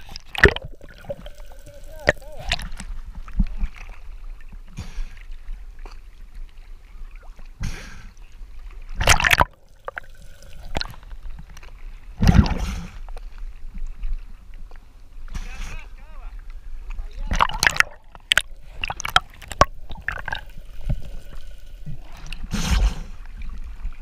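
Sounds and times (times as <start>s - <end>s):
rushes of water: 0.0s - 24.0s
sea water sloshing and gurgling: 0.0s - 24.0s.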